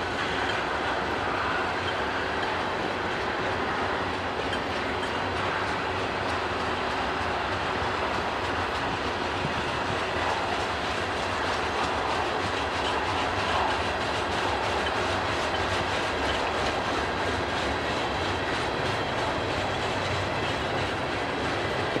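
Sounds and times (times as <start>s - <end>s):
freight train cars rumbling: 0.0s - 22.0s
wheels clicking over rail joints: 0.0s - 22.0s.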